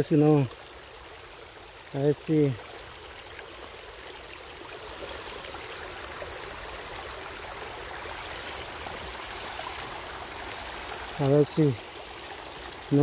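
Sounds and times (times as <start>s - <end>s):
creek water running over stones: 0.0s - 13.0s.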